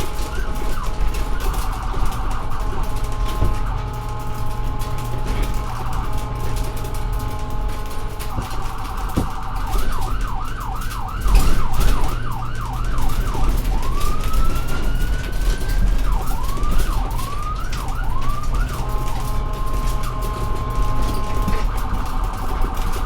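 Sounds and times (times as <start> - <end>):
ambulance siren: 0.0 - 23.0
low vehicle rumble: 0.0 - 23.0.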